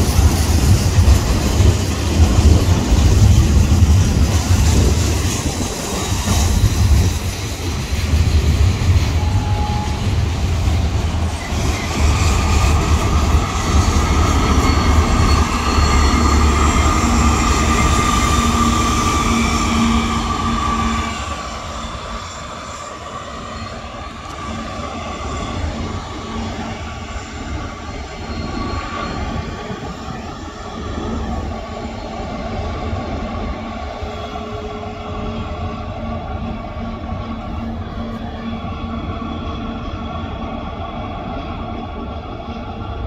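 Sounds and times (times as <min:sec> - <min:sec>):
freight train rumbling: 0:00.0 - 0:43.0
wheel flanges squealing: 0:00.0 - 0:43.0.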